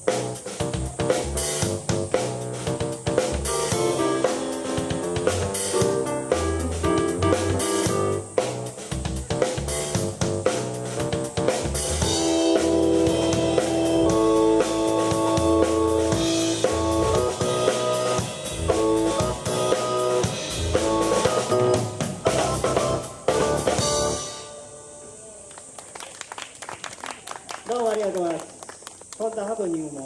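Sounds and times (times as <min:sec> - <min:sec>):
rock drum beat: 0:00.0 - 0:24.5
keyboard chords: 0:00.0 - 0:25.5.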